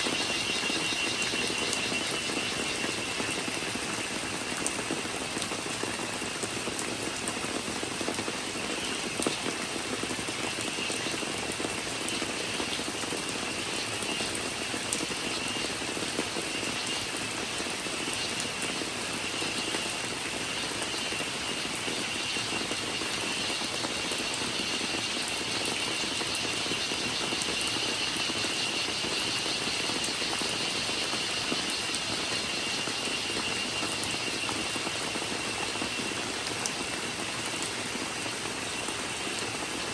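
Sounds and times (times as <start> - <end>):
raindrop ticks: 0.0 - 39.6
cicada drone: 0.0 - 39.9
steady rain: 0.0 - 39.9.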